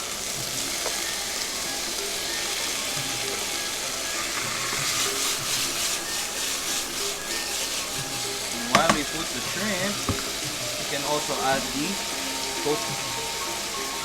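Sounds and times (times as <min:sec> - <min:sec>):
chicken sizzling in hot oil: 0:00.0 - 0:14.0
pan being stirred: 0:00.0 - 0:14.0.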